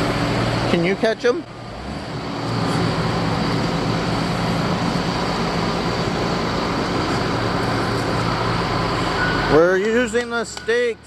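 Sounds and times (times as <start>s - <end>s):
construction machinery engine running: 0.0s - 11.0s.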